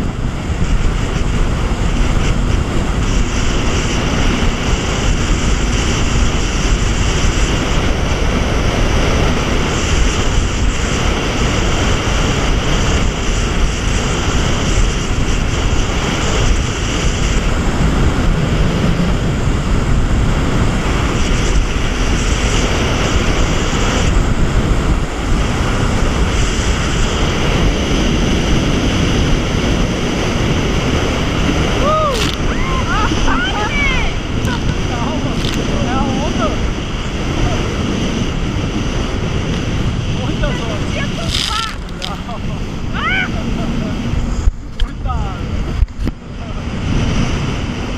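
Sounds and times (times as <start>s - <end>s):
water spray: 0.0s - 44.6s
jet ski engine running: 0.0s - 47.9s
wind buffeting microphone: 0.0s - 47.9s.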